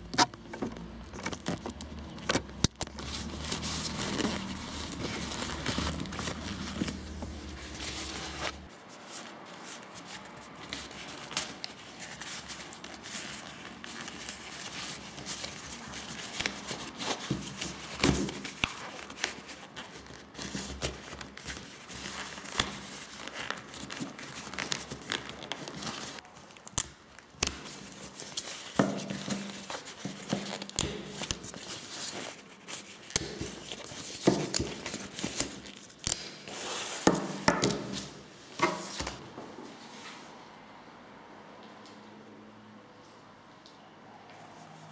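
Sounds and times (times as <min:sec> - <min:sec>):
fabric rustling and crinkling: 0:00.0 - 0:40.4.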